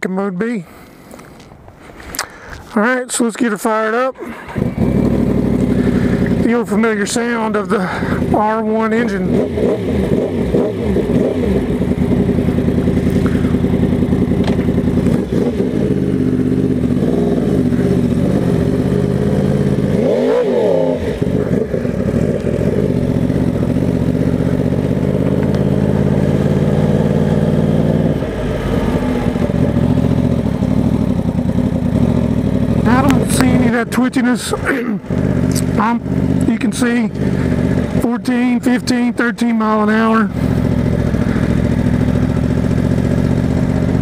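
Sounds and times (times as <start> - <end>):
motorcycle engine revving: 4.1 - 44.0.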